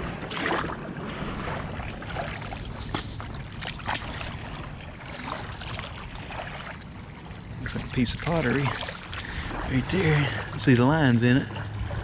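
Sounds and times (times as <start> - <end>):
river water lapping: 0.0 - 12.0.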